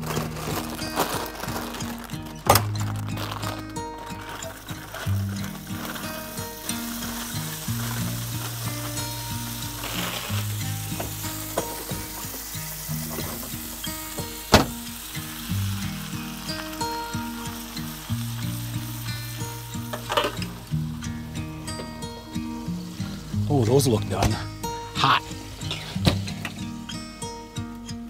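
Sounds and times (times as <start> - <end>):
green beans sizzling in skillet: 0.0 - 27.8.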